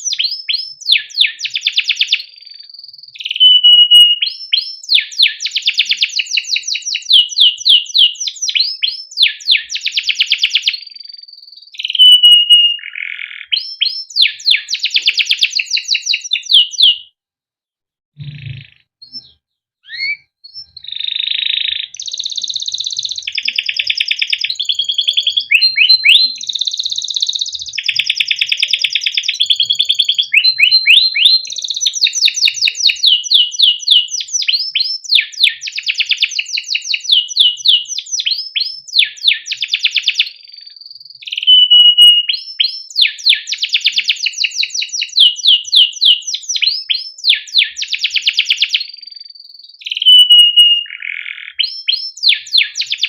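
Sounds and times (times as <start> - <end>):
canary singing trills and chirps: 0.0 - 17.2, 18.2 - 53.0.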